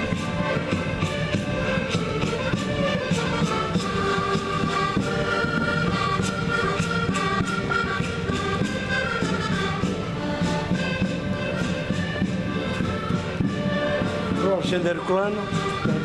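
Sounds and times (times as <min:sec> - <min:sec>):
concertinas playing folk tune: 0:00.0 - 0:16.0
steady percussive beat: 0:00.0 - 0:16.0.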